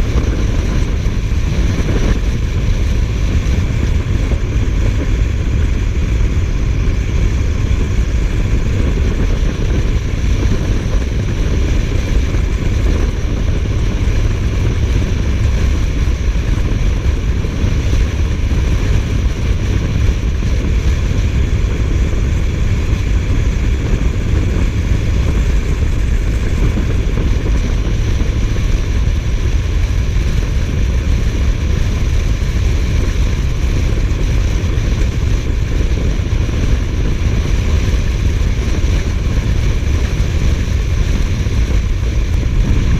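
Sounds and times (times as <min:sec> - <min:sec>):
motorcycle engine drone: 0:00.0 - 0:42.9
wind rush on microphone: 0:00.0 - 0:42.9.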